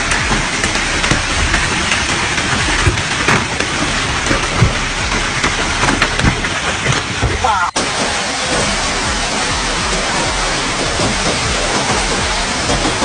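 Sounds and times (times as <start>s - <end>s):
rain and wind rushing: 0.0s - 13.0s
raindrops tapping a surface: 0.0s - 13.0s.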